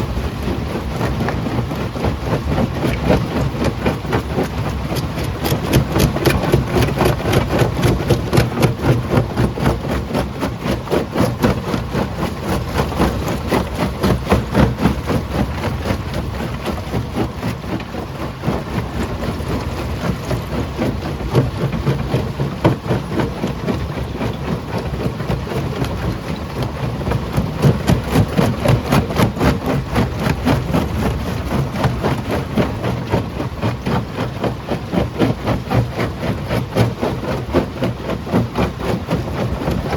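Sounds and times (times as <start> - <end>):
low machine rumble: 0.0 - 39.9.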